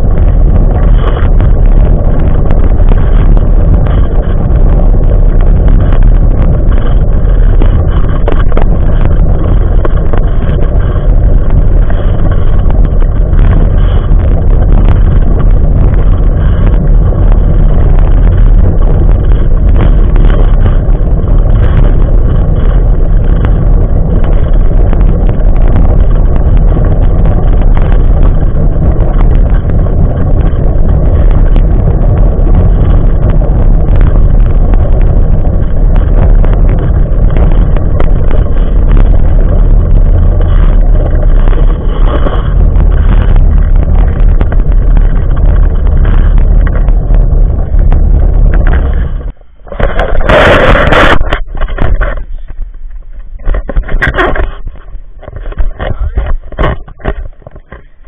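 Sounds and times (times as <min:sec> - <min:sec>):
stroller wheels rumbling on asphalt: 0:00.0 - 0:58.0.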